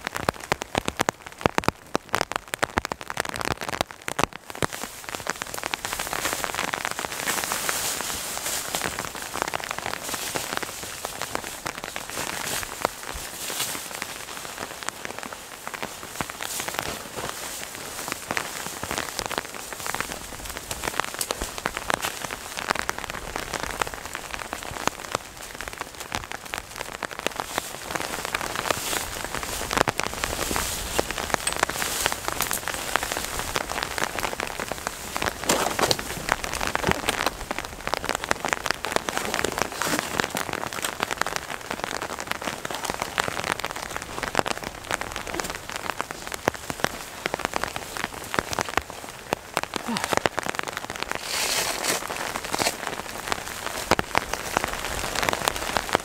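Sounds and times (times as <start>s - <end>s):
raindrops ticking: 0.0s - 56.0s
steady rain: 0.0s - 56.0s.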